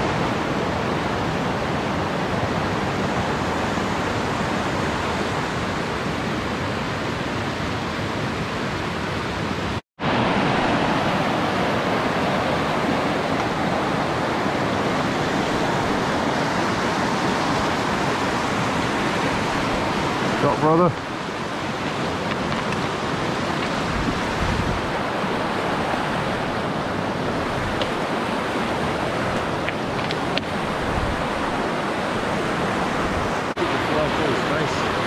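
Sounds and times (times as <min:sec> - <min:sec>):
mountain stream rapids: 0:00.0 - 0:35.0.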